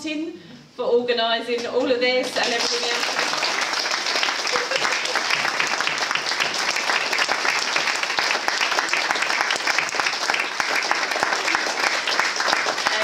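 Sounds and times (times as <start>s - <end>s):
audience clapping: 2.2s - 13.0s.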